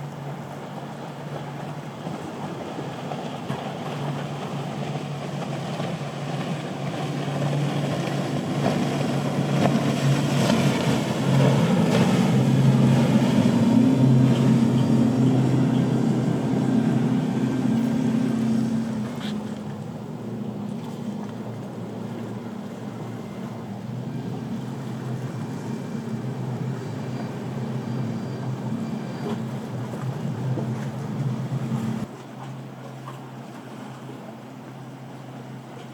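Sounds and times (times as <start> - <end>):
motorboat engines running: 0.0 - 35.9
water noise: 0.0 - 35.9
wind: 0.0 - 35.9.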